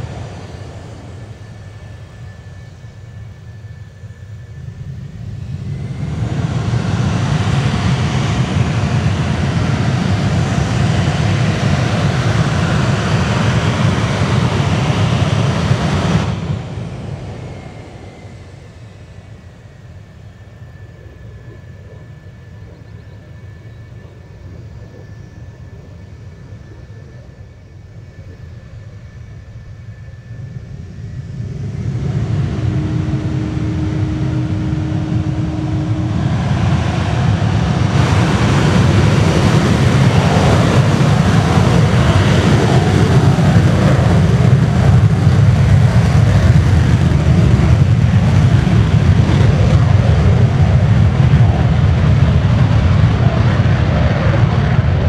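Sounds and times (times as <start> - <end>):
jet engines whining and roaring: 0.0 - 55.0.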